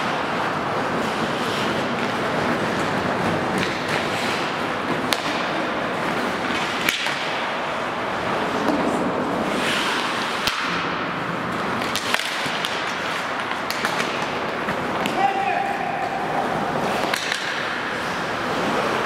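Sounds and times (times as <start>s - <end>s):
hockey sticks striking puck: 0.0s - 19.0s
skates scraping on ice: 0.0s - 19.0s.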